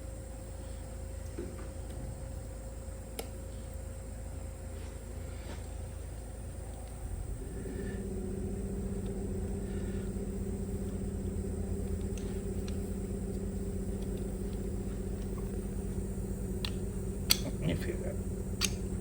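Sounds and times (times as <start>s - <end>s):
machine motor humming: 0.0s - 19.0s.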